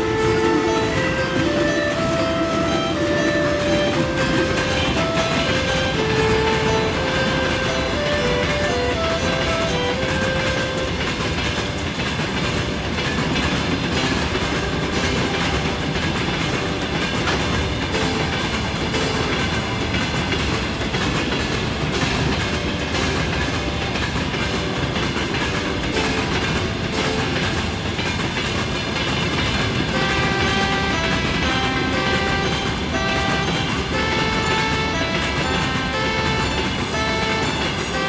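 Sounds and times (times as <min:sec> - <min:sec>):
train running on track: 0:00.0 - 0:38.0.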